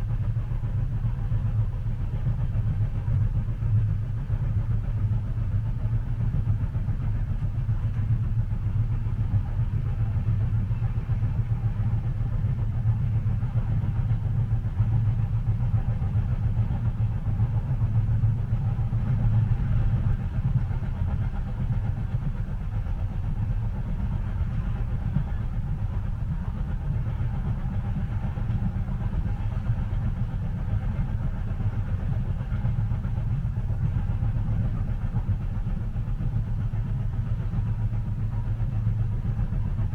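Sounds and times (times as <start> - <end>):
train rumbling inside carriage: 0.0 - 39.9.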